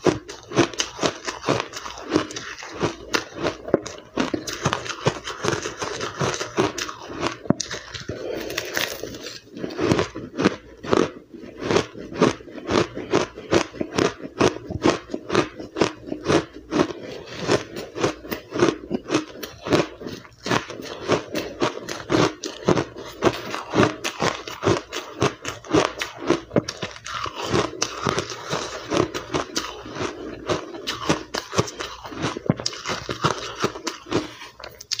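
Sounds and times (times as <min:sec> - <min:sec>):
chewing crushed ice: 0:00.0 - 0:35.0.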